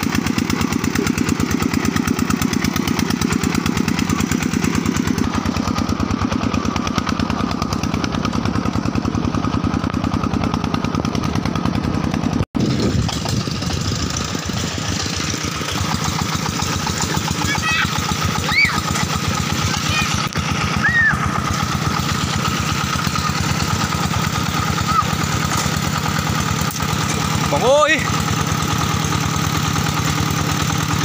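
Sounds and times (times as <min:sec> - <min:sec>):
diesel tractor engine chugging: 0:00.0 - 0:31.0.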